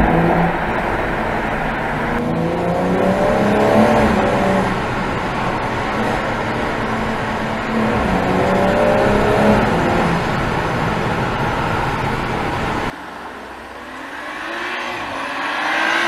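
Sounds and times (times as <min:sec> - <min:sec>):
car engine running: 0:00.0 - 0:14.4
car accelerating past: 0:00.0 - 0:16.0.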